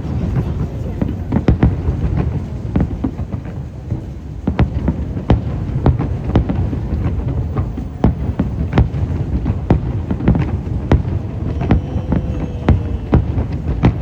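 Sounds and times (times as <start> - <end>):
fireworks sharp bangs: 0.0 - 14.0.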